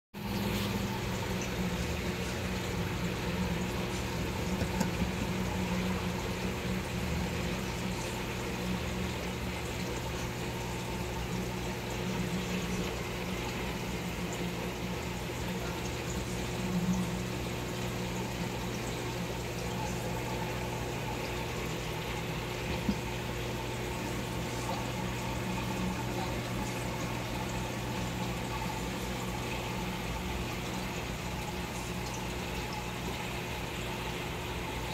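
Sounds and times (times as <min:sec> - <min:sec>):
low electrical pump hum: 0:00.2 - 0:34.9
trickling bubbling water: 0:00.2 - 0:34.9.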